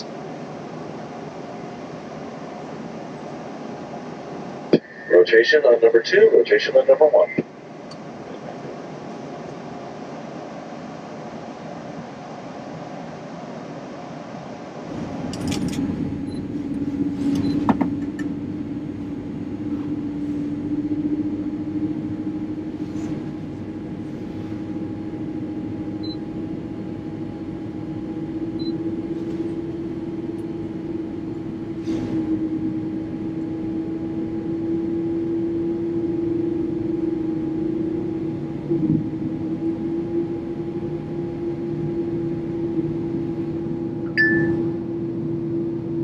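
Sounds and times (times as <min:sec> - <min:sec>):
cabin air hum: 0:00.0 - 0:46.0
jet engines spooling up: 0:00.0 - 0:46.0.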